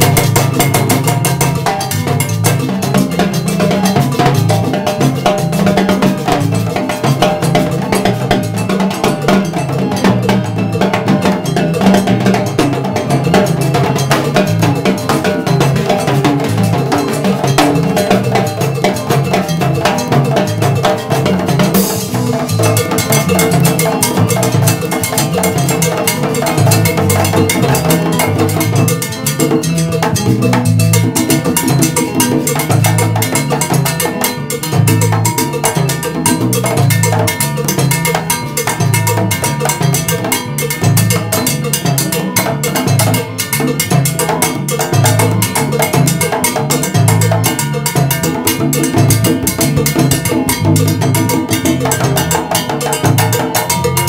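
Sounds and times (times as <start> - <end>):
electric bass line: 0.0 - 54.0
keyboard: 0.0 - 54.0
timbales and cowbell: 0.0 - 54.0.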